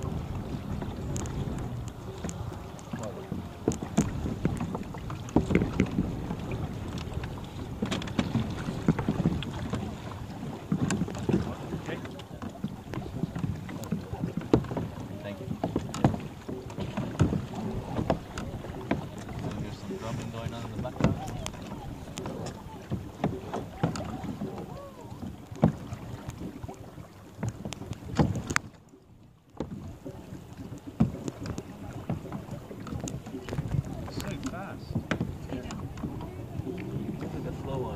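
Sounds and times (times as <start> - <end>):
wind buffeting microphone: 0.0 - 28.8, 29.7 - 37.9
knocks and splashes: 0.0 - 37.9
waves lapping against kayaks: 0.0 - 37.9.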